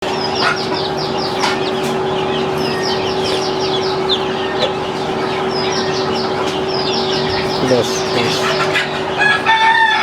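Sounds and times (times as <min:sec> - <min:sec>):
steady hum: 0:00.0 - 0:09.5
chickens peeping: 0:00.0 - 0:10.0.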